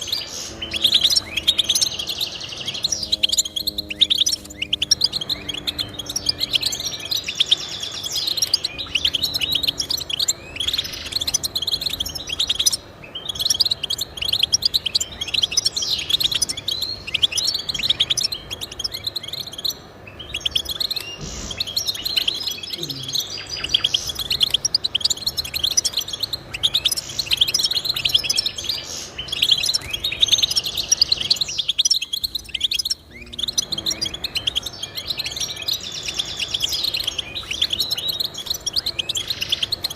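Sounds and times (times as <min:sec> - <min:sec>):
finch singing: 0:00.0 - 0:39.9.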